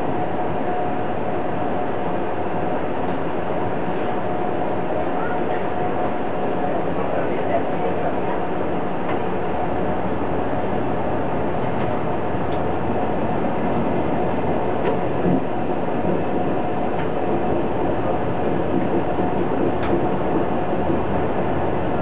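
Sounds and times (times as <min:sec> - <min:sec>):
train running on track: 0:00.0 - 0:22.0.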